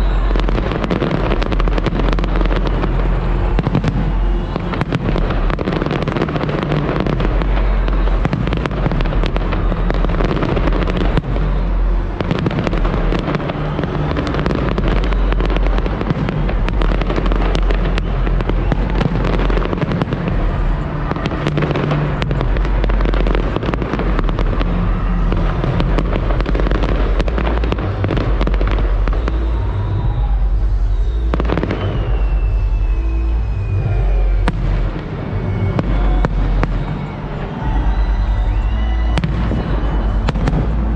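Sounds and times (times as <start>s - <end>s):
falling firework whistle: 0.0s - 40.9s
fireworks cracking and banging: 0.0s - 40.9s
music playing: 0.0s - 40.9s.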